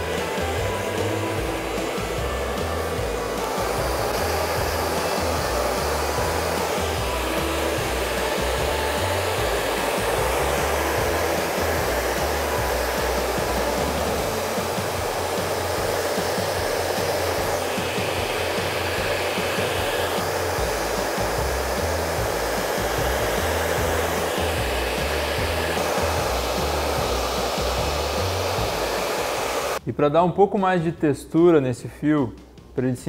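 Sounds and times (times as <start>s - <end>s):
bright hiss: 0.0s - 29.8s
hair dryer blowing: 0.0s - 29.8s.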